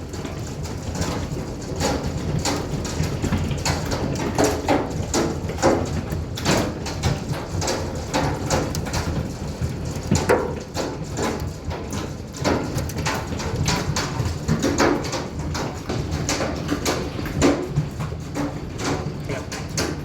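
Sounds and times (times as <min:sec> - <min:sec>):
heavy rain and hail rushing: 0:00.0 - 0:20.0
hailstones striking hard surfaces: 0:00.1 - 0:20.0.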